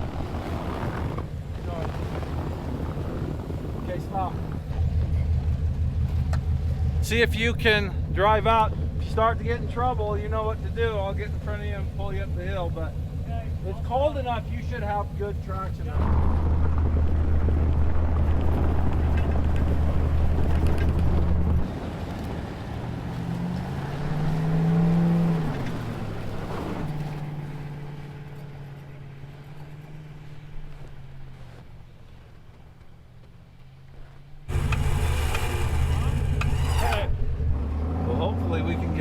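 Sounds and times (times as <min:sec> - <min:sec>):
pickup truck engine revving: 0:00.0 - 0:30.4, 0:34.5 - 0:39.0
vehicle engine running: 0:00.0 - 0:39.0.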